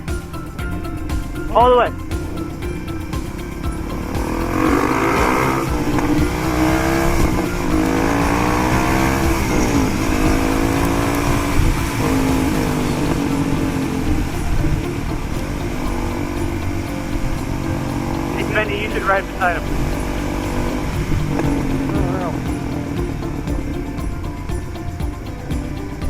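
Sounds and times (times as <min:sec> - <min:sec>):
dirt bike engine revving: 0:00.0 - 0:26.0
low rumble: 0:00.0 - 0:26.0.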